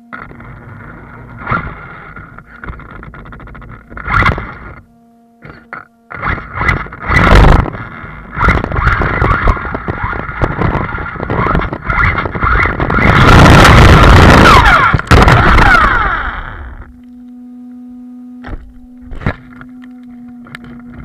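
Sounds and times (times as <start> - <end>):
rc car motor whine: 0.0 - 17.4, 18.4 - 21.0.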